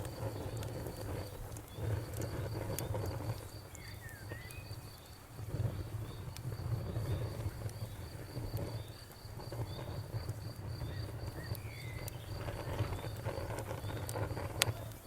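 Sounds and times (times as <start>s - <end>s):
crackling bonfire: 0.0s - 15.0s
crickets chirping: 0.0s - 15.0s
sharp pops from fire: 0.0s - 15.0s.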